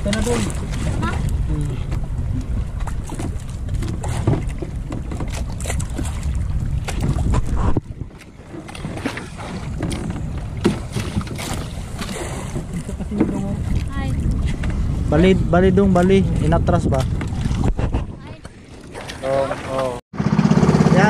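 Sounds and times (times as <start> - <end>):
wind on microphone: 0.0 - 18.7
boat engine rumbling: 0.0 - 21.0.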